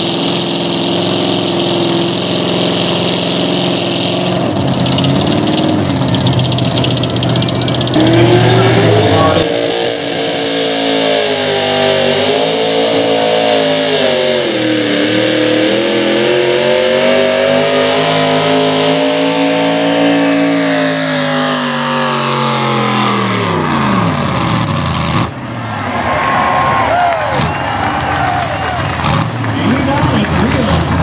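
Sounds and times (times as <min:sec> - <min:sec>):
tractor engine at high revs: 0:00.0 - 0:26.0, 0:26.8 - 0:31.0.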